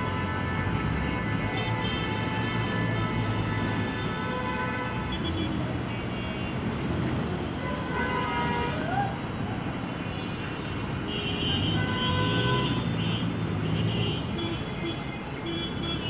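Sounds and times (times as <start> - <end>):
traffic engines running: 0.0 - 16.0.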